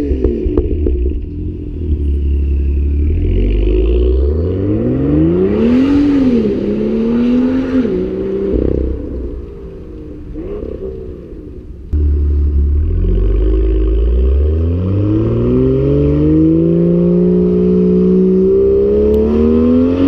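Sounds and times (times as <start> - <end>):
car exhaust revving and driving off: 0.0 - 20.0.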